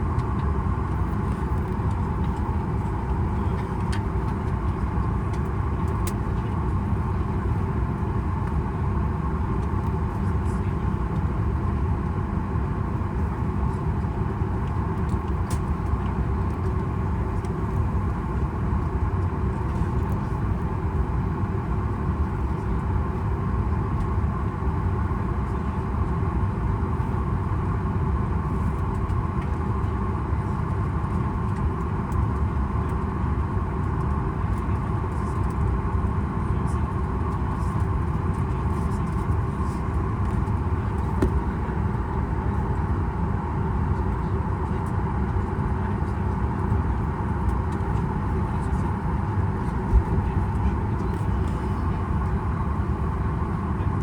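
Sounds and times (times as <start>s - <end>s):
aircraft cabin rumble: 0.0s - 54.0s
constant hum: 0.0s - 54.0s.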